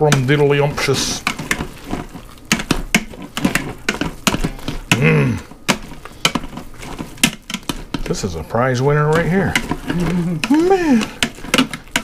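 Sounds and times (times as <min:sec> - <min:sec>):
potato masher knocking on metal pot: 0:00.0 - 0:12.0.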